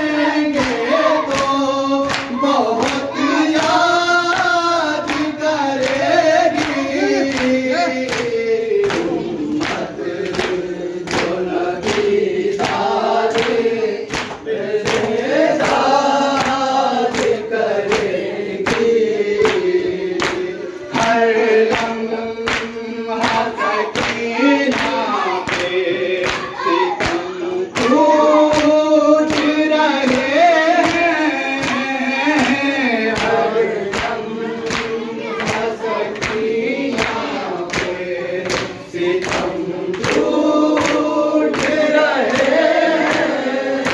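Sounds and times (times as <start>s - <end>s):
men chanting a lament: 0.0s - 43.9s
hands slapping chests: 0.4s - 43.9s.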